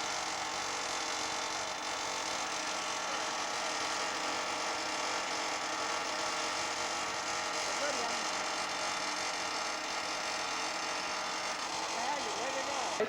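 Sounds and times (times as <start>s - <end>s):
model aircraft engine buzzing whine: 0.0s - 13.0s.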